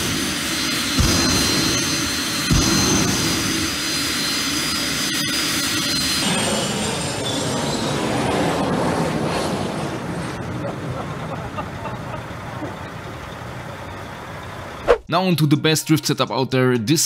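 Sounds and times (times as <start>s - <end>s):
turbine engine whine: 0.0s - 15.1s.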